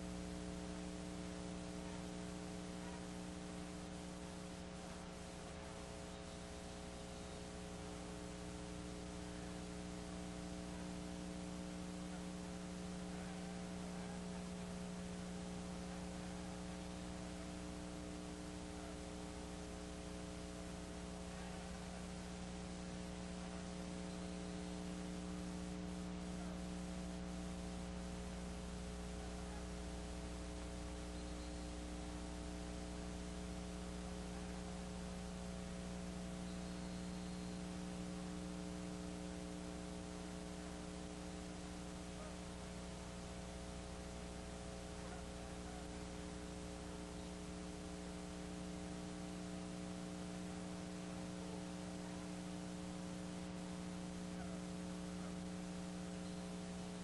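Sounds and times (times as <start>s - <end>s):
electrical mains hum: 0.0s - 57.0s
recording hiss: 0.0s - 57.0s.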